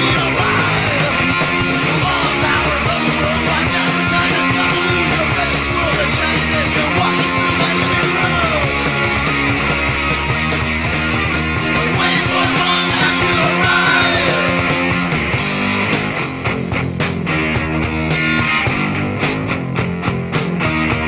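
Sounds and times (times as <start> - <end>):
punk rock band playing: 0.0 - 21.0.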